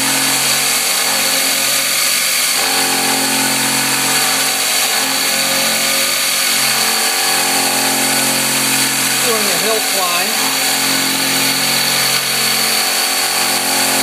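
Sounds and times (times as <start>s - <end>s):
milling machine cutting steel: 0.0s - 14.0s
whining motor tones: 0.0s - 14.0s.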